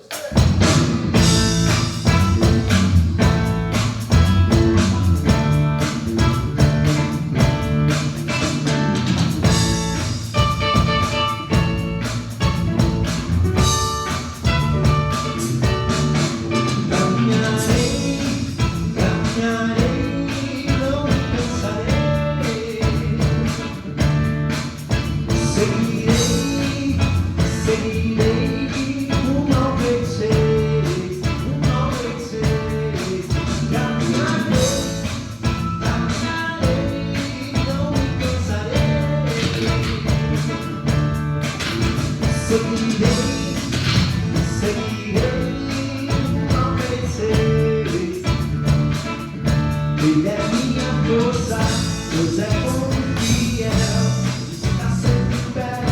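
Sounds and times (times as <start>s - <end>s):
guitar-led gospel instrumental: 0.0s - 55.9s.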